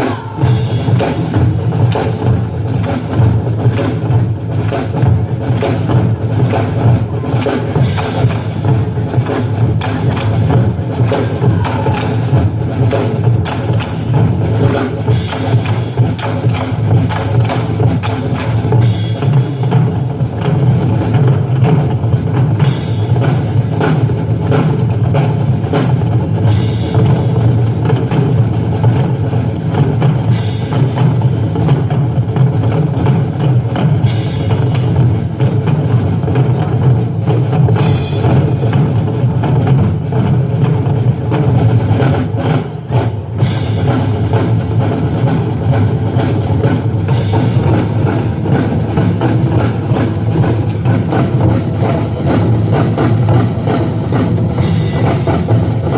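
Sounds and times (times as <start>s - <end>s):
heavy bass drum: 0.0s - 55.9s
live band music: 0.0s - 55.9s.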